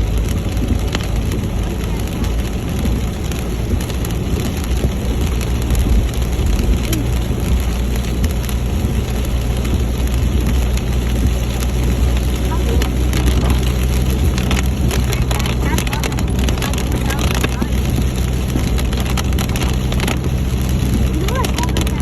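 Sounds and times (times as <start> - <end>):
engine and road rumble: 0.0 - 22.0
rain hitting vehicle windshield: 0.0 - 22.0.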